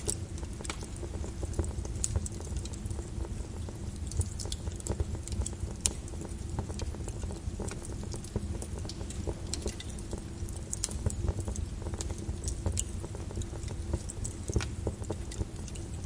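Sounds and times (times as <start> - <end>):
lava crackling and popping: 0.0 - 16.0
lava flow rumbling: 0.0 - 16.0.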